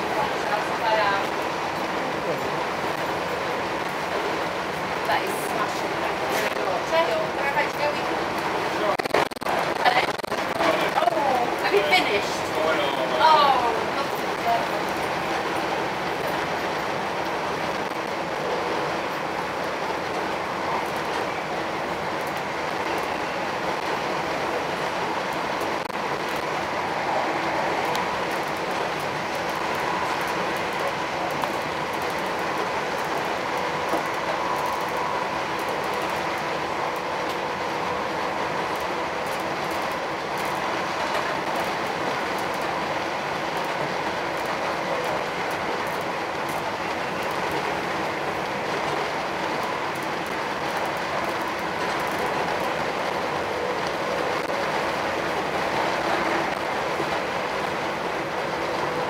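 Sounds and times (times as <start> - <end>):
train whine: 0.0 - 59.0
wheels rumbling on rail: 0.0 - 59.0.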